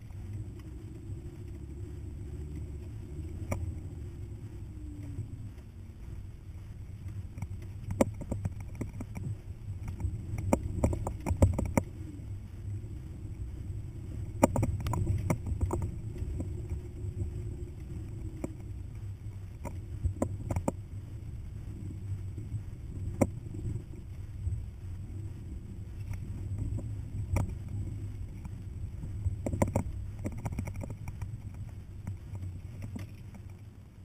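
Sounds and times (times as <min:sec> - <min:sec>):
knocks and rattles over bumps: 0:00.0 - 0:24.9, 0:25.8 - 0:33.7
vehicle engine and tyres rumbling: 0:00.0 - 0:34.0.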